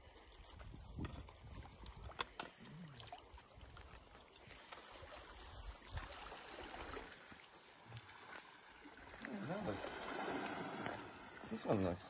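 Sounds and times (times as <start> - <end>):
water lapping against rocks: 0.0 - 12.0.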